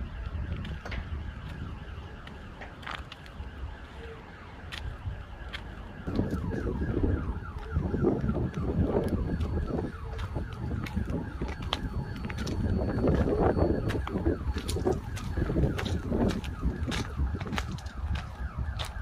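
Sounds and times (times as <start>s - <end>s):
electronic alarm sweeping tone: 0.0s - 19.0s
wind rumble on microphone: 0.0s - 19.0s.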